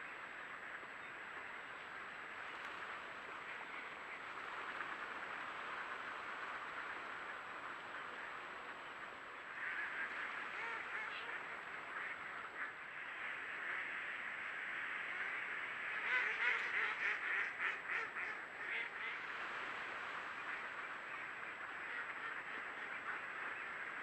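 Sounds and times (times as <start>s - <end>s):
flock of ducks quacking: 3.0s - 24.0s.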